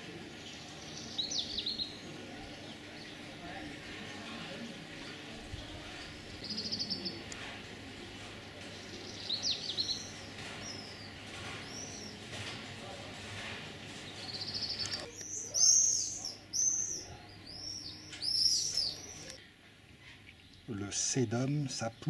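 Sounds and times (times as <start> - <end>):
songbirds chirping and singing: 0.0 - 4.2, 4.8 - 19.4.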